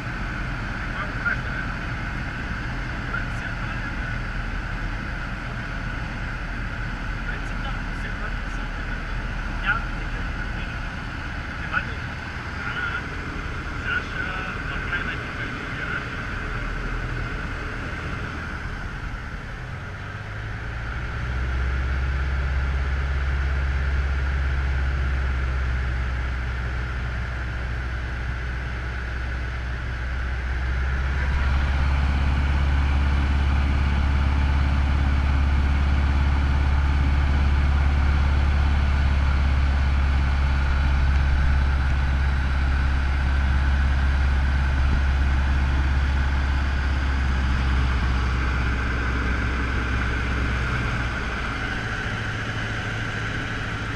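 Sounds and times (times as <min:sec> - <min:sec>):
light aircraft engine droning: 0:00.0 - 0:53.9.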